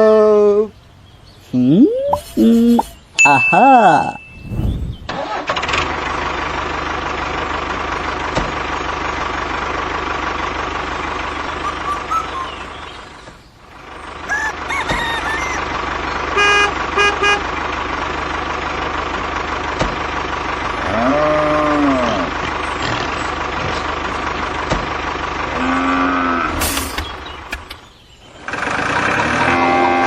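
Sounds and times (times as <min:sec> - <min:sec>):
vehicle engine running: 0:04.4 - 0:29.6.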